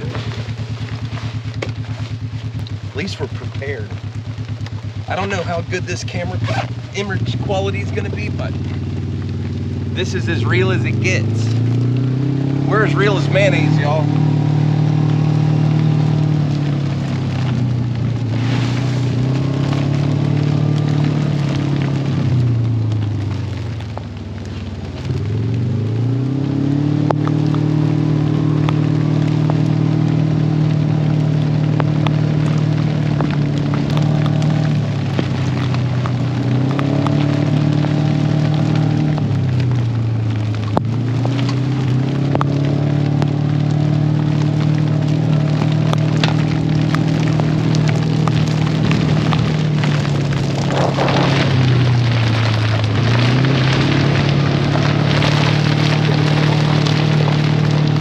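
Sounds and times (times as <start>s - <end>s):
rain falling: 0.0s - 58.0s
utv engine running: 0.0s - 58.0s.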